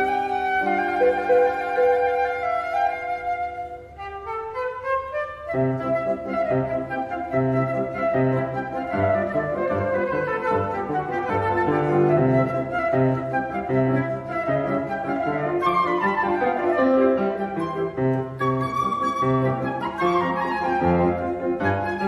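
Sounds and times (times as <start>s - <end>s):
flute playing classical piece: 0.0s - 22.0s
piano accompaniment: 0.0s - 22.0s.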